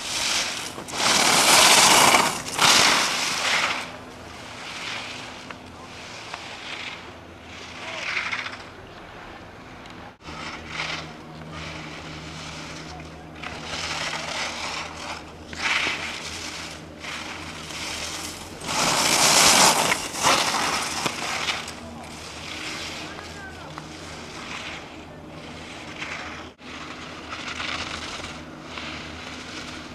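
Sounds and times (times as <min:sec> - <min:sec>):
skis scraping on snow: 0:00.0 - 0:29.9.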